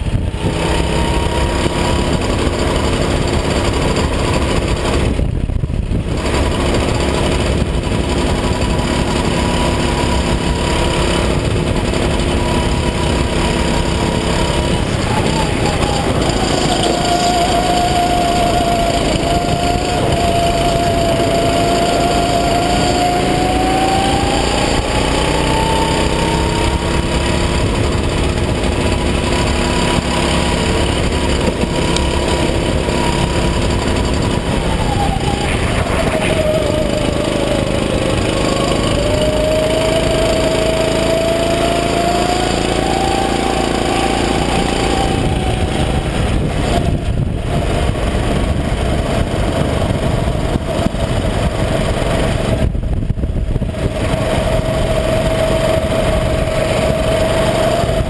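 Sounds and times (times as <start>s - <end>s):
go-kart engine revving: 0.0s - 58.0s
steady rushing noise: 0.0s - 58.0s.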